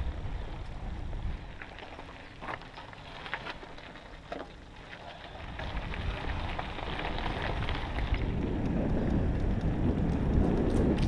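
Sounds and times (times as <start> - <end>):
wind rumbling on microphone: 0.0 - 4.1, 4.7 - 11.0
bike tyres rolling on gravel: 0.0 - 11.0.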